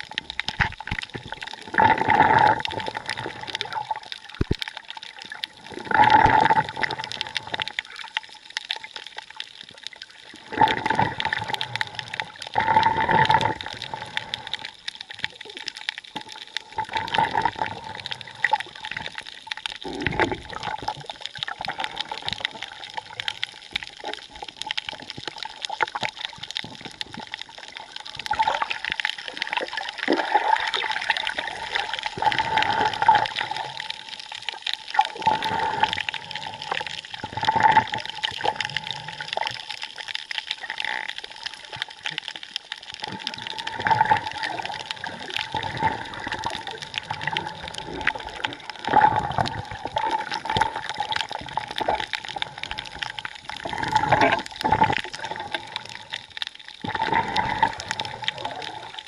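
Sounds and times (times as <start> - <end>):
water sloshing and gurgling: 0.0 - 59.0.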